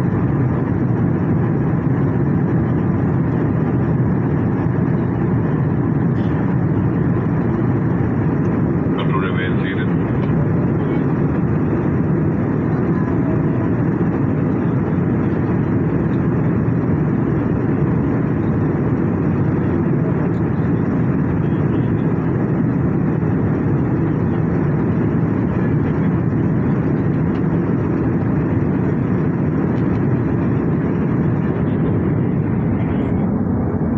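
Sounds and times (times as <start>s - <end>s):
airliner cabin jet engine rush: 0.0s - 33.9s.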